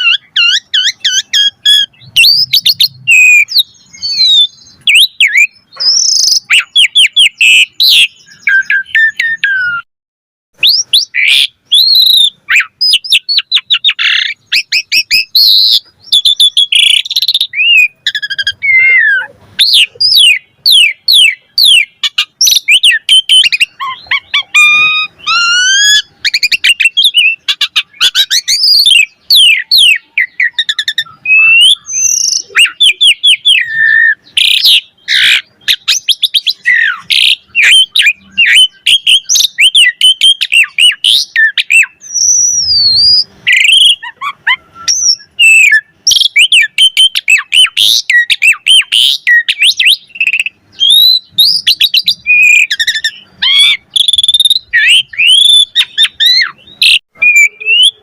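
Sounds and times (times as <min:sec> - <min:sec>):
starling singing: 0:00.0 - 0:09.9, 0:10.6 - 0:58.0.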